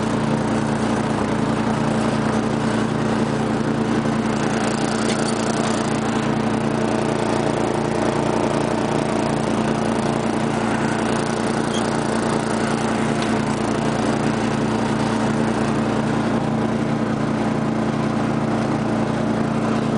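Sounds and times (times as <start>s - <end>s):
riding mower engine running: 0.0s - 19.9s.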